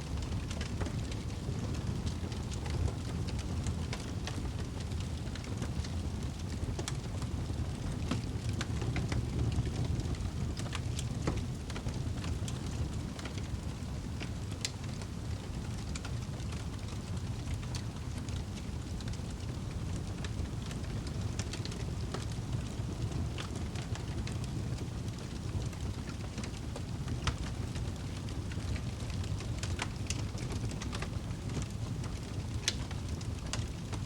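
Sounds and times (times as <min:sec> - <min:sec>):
fire crackles and pops: 0:00.0 - 0:34.0
fireplace flames rumbling: 0:00.0 - 0:34.0.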